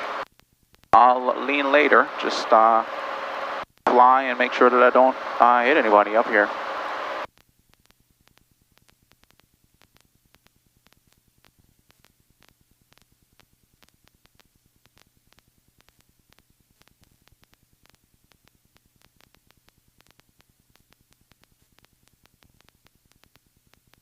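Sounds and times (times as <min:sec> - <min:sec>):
faint steady hum: 0:00.0 - 0:24.0
static clicks: 0:00.0 - 0:24.0.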